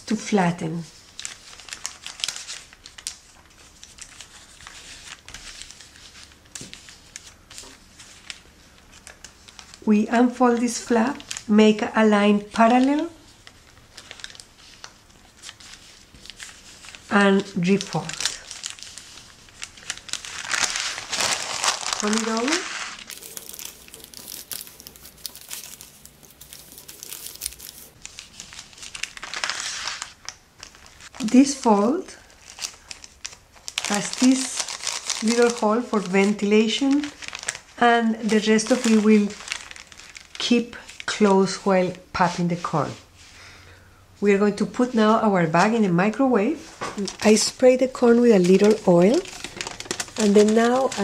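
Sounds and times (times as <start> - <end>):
paper bag crinkling and rustling: 1.0 - 11.8, 12.4 - 42.7, 46.6 - 51.0.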